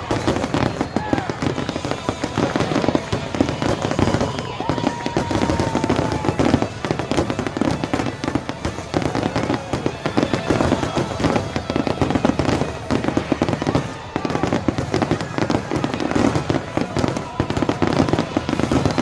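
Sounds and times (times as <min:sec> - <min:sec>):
fireworks bursts and crackles: 0:00.0 - 0:19.0.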